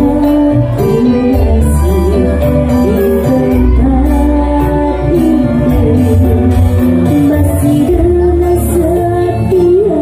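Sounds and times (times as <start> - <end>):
electric guitar: 0.0 - 10.0
keyboard: 0.0 - 10.0
steady bass: 0.0 - 10.0
woman singing into a microphone: 0.0 - 10.0.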